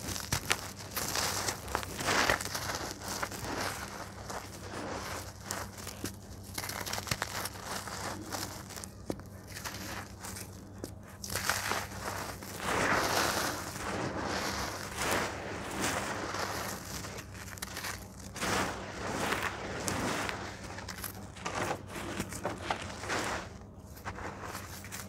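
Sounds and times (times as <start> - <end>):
gritty crackling of dirt: 0.0 - 25.0.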